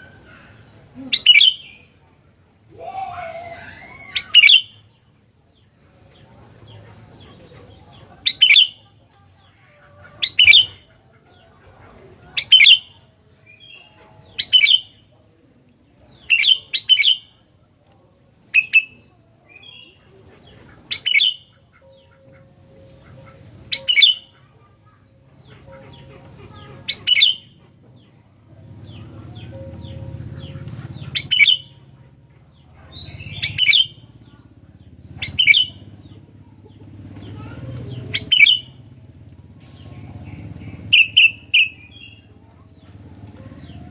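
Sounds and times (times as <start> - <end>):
bulbul calling: 0.0 - 2.1, 2.8 - 5.0, 5.6 - 15.2, 15.9 - 17.4, 18.4 - 43.9.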